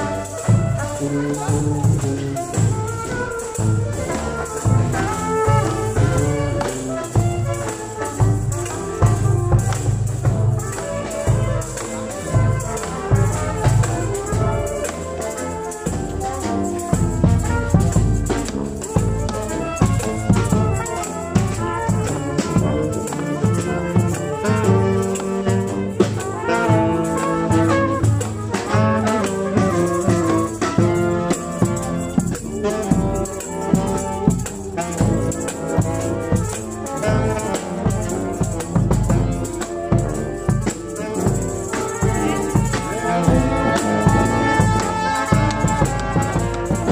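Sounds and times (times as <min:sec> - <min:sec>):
brass band melody: 0:00.0 - 0:46.9
tambourine beat: 0:00.0 - 0:46.9.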